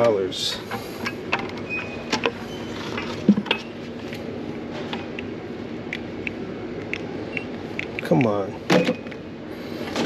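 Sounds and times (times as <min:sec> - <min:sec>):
store background hum: 0:00.0 - 0:10.0.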